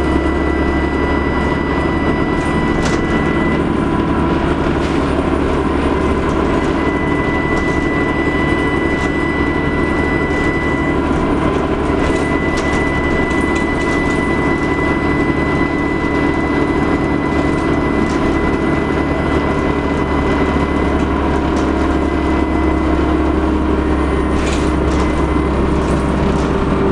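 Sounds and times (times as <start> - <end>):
bus diesel engine drone: 0.0 - 26.9
turbocharger whistling: 0.0 - 26.9.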